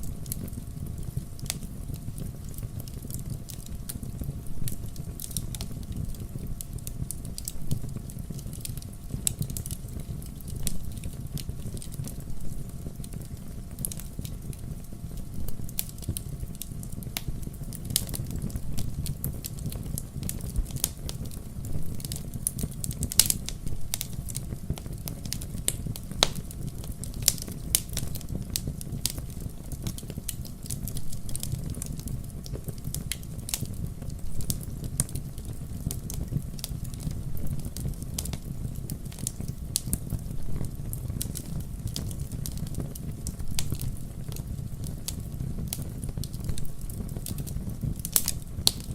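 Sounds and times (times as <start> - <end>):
firewood burning and crackling: 0.0 - 48.9.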